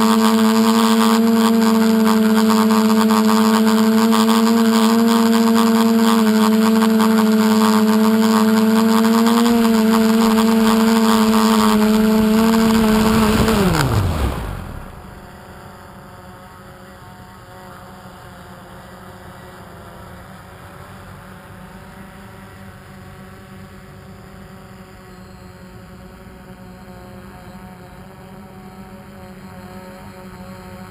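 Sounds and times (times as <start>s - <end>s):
model aircraft motor whine: 0.0s - 30.9s.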